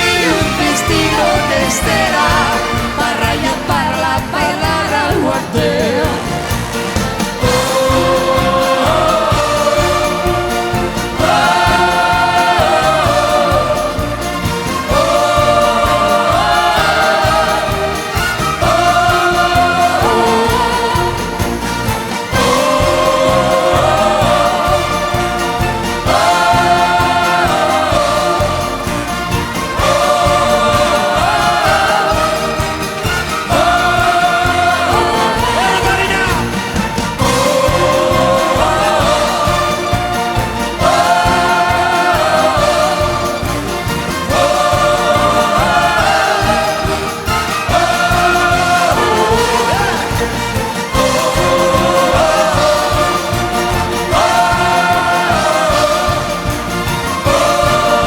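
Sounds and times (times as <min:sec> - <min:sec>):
instrumental pop music: 0:00.0 - 0:58.0.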